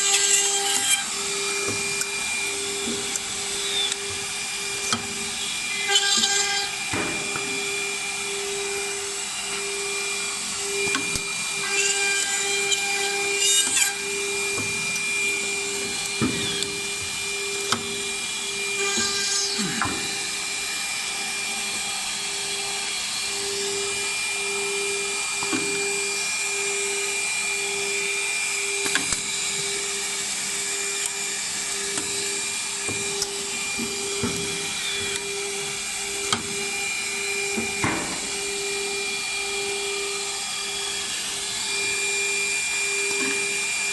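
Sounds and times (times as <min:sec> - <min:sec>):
machine motor hum and whine: 0:00.0 - 0:43.9.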